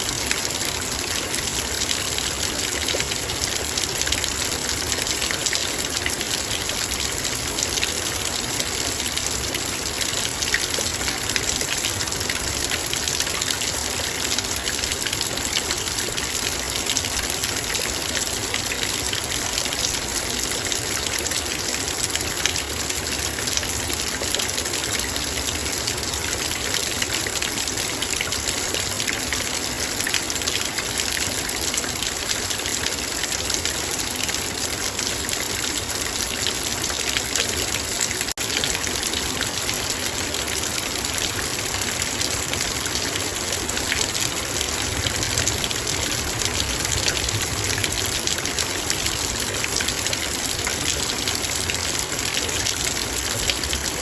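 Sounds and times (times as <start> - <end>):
rain on a metal bowl: 0.0 - 54.0.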